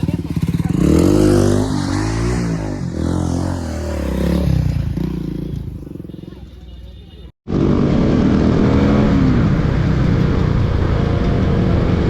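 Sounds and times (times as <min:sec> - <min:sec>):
motorcycle engine revving: 0:00.0 - 0:06.7, 0:07.5 - 0:12.0.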